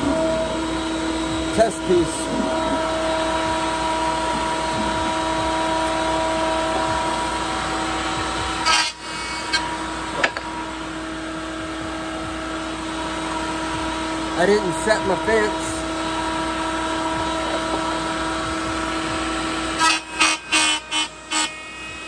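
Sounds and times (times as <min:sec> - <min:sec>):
dust collector whining: 0:00.0 - 0:22.0.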